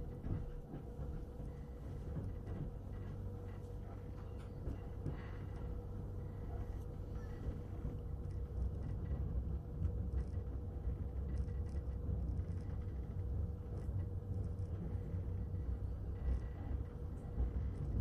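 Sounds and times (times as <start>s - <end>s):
constant hum: 0.0s - 18.0s
train low rumble: 0.0s - 18.0s.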